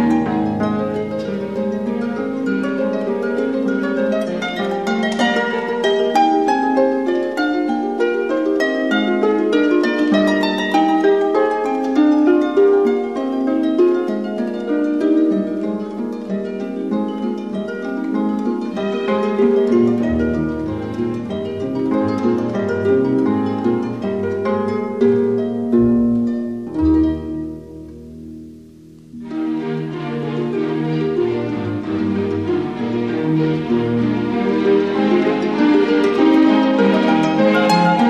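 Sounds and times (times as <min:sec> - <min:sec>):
harp music: 0:00.0 - 0:38.0.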